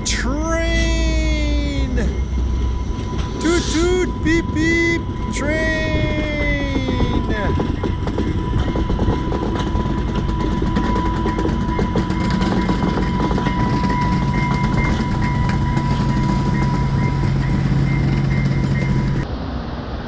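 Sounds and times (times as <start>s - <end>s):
high-pitched whine: 0.0s - 20.0s
train rumbling on rails: 0.0s - 20.0s.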